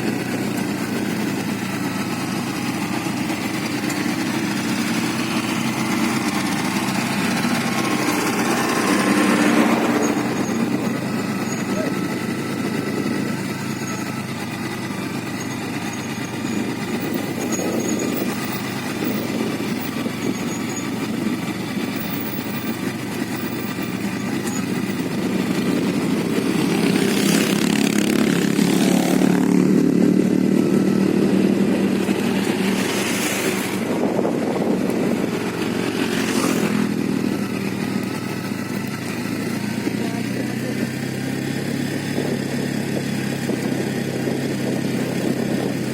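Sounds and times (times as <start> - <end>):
motorcycle engine running: 0.0 - 45.9
passing traffic rushing: 0.0 - 45.9.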